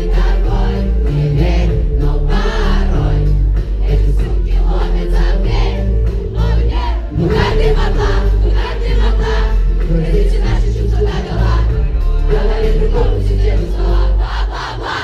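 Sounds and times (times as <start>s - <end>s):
audience singing along: 0.0s - 15.0s
live pop song with heavy bass: 0.0s - 15.0s.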